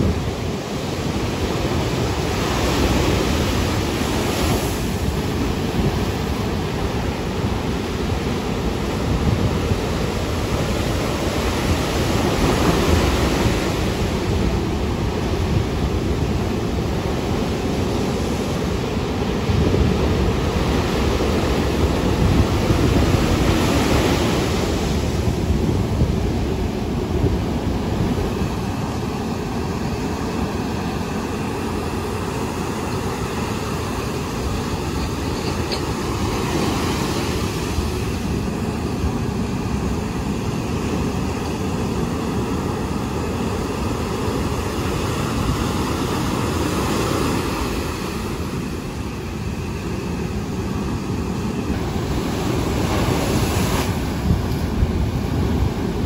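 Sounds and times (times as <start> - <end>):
heavy surf breaking: 0.0 - 56.0.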